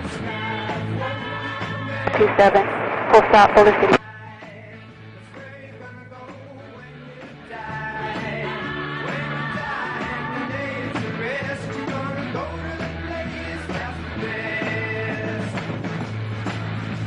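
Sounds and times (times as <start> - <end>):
rock and roll song with singing: 0.0 - 17.0.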